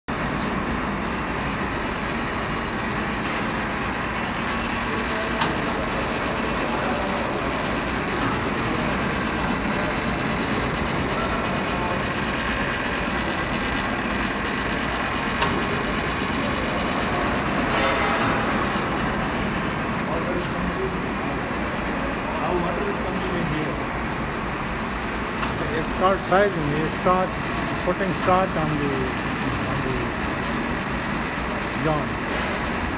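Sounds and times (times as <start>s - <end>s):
textile mill machinery running: 0.1s - 32.9s.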